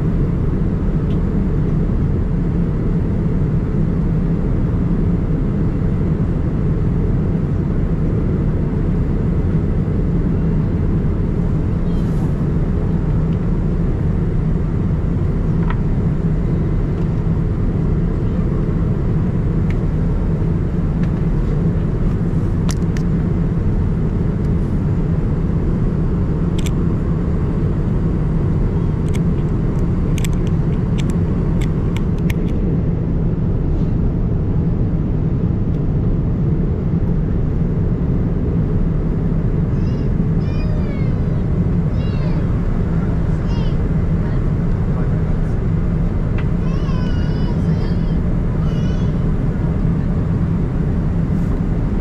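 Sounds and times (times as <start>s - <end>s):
aircraft cabin engine rumble: 0.0s - 52.0s.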